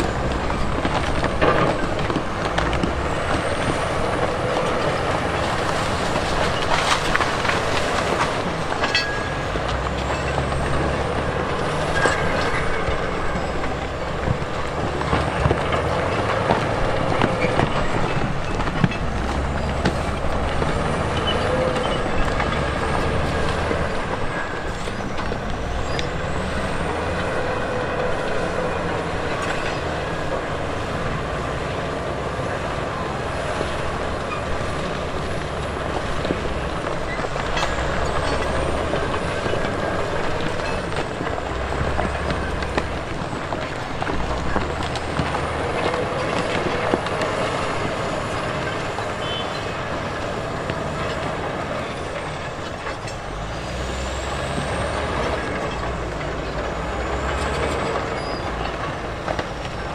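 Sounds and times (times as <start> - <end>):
diesel engine running: 0.0 - 59.9
machinery knocks and clanks: 0.0 - 59.9.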